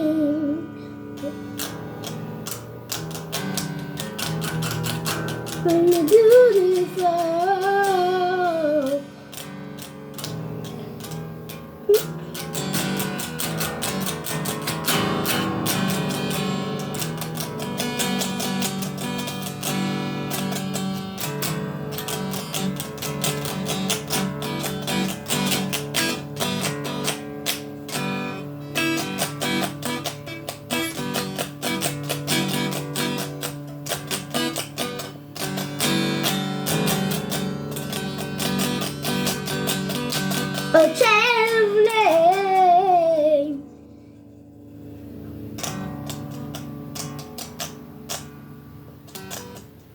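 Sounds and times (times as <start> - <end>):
fast plucked guitar with strumming: 0.0 - 44.1, 44.7 - 49.9.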